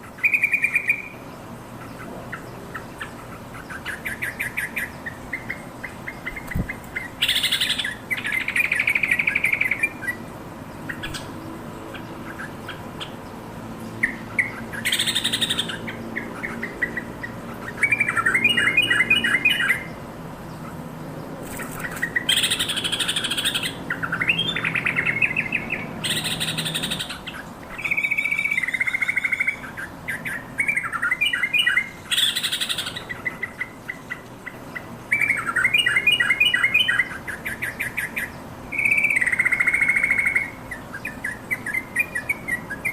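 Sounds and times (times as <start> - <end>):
harsh bird chattering: 0.0 - 13.2, 14.0 - 19.9, 21.4 - 42.9.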